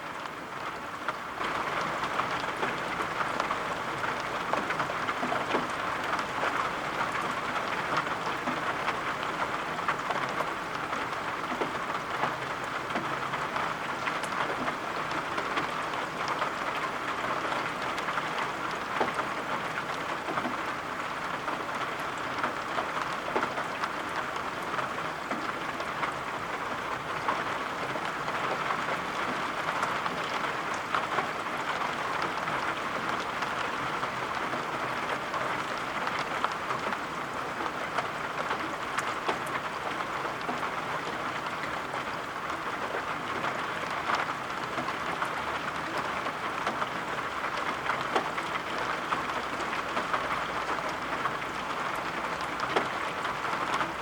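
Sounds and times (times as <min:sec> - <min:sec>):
steady rain patter: 0:00.0 - 0:54.0.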